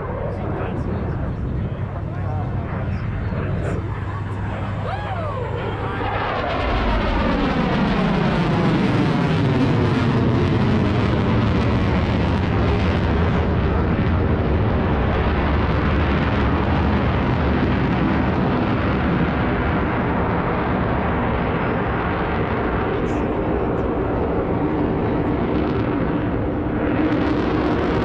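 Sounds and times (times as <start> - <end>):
jet aircraft flying past: 0.0 - 28.0.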